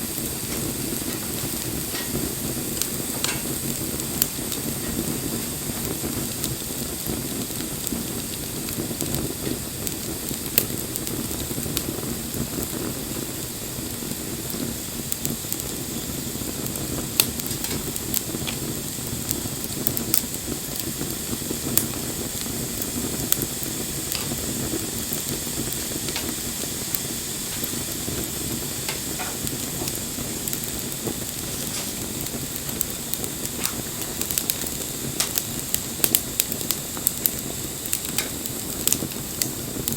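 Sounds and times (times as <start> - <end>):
bonfire flames hissing: 0.0 - 39.9
fire crackling and popping: 0.0 - 39.9.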